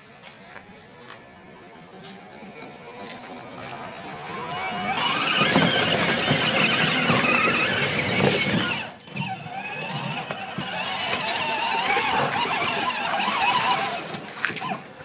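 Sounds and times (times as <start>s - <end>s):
electric motors whining: 0.6s - 15.0s.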